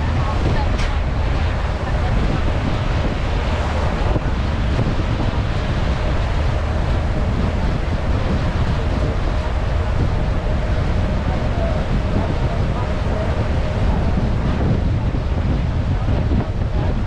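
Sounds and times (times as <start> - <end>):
faint engine hum: 0.0 - 17.0
rushing boat wake: 0.0 - 17.0
wind rumbling on microphone: 0.0 - 17.0.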